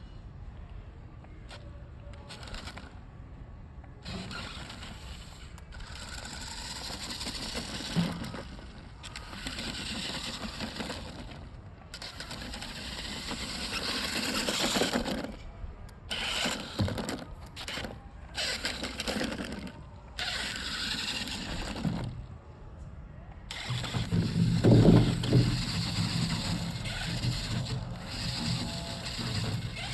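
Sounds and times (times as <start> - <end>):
toy truck motor whirring: 1.5 - 3.0, 4.0 - 22.3, 23.5 - 29.9
toy truck wheels scrabbling: 1.5 - 3.0, 4.0 - 22.3, 23.5 - 29.9.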